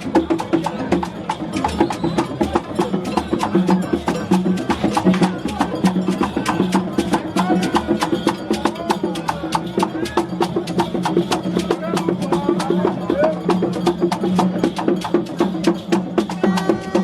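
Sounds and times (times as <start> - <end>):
pitched drum tones: 0.0 - 17.0
wood-block clicks: 0.2 - 17.0.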